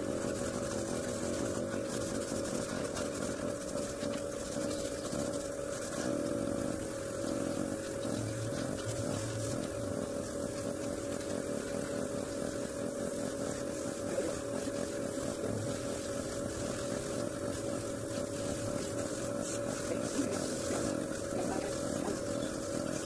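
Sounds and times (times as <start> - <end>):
air compressor humming: 0.0 - 23.0
airbrush spraying paint: 0.0 - 23.0.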